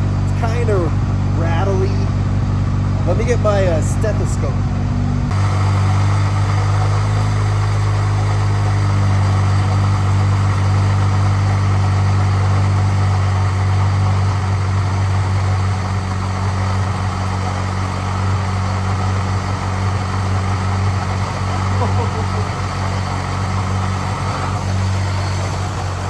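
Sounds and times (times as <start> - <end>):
car engine idling with rattle: 0.0 - 26.0.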